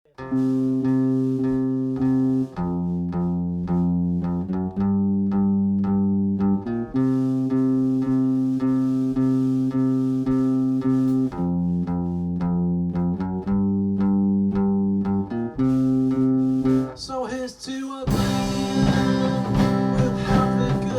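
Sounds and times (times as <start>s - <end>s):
bass: 0.0s - 17.3s, 18.1s - 20.9s
guitar chords strummed: 0.1s - 17.0s, 18.1s - 20.9s.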